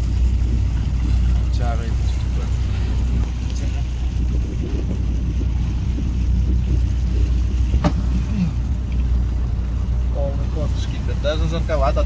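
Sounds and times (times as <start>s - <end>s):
motor boat engine rumbling: 0.0s - 12.0s
water noise: 0.0s - 12.0s
wind: 0.0s - 12.0s.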